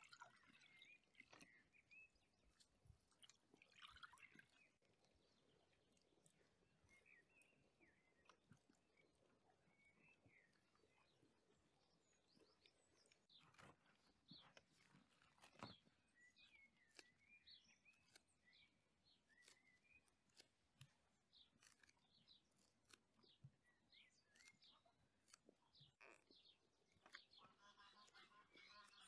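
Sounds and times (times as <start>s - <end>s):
faint birds chirping: 0.0s - 29.0s.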